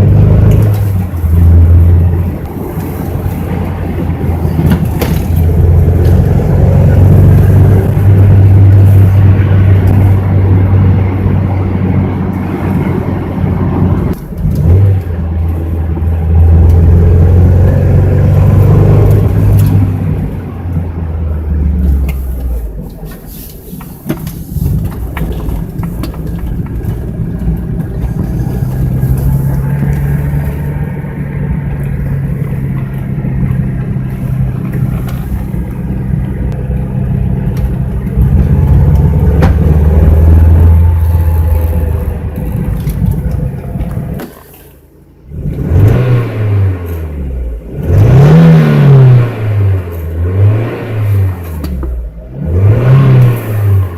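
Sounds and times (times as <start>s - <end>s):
car engine running under load: 0.0s - 53.9s.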